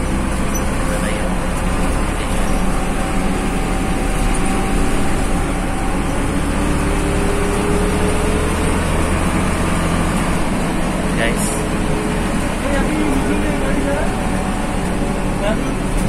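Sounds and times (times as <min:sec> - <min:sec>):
bus engine and road drone: 0:00.0 - 0:16.0.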